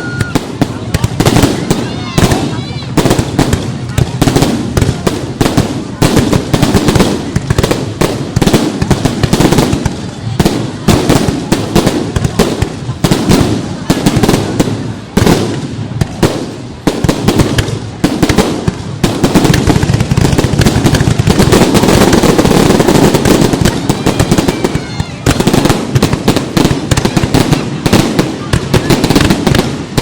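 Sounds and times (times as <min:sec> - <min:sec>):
fireworks bangs and crackle: 0:00.0 - 0:30.0.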